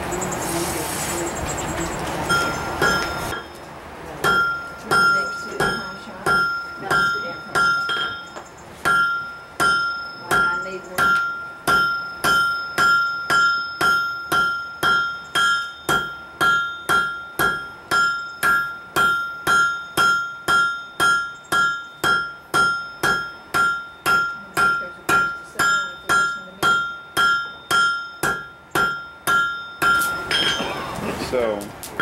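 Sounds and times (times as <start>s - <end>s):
hammer striking steel on anvil: 2.3s - 3.5s, 4.2s - 30.8s.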